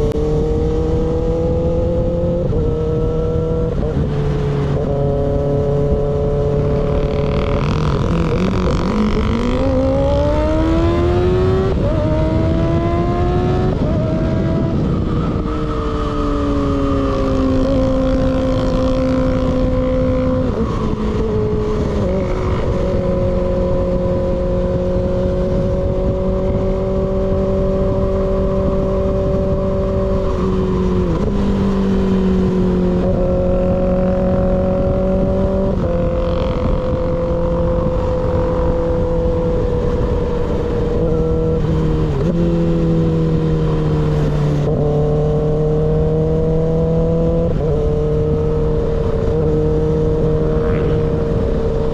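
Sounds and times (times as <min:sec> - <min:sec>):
motorcycle accelerating through gears: 0:00.0 - 0:51.9
wind rush: 0:00.0 - 0:51.9.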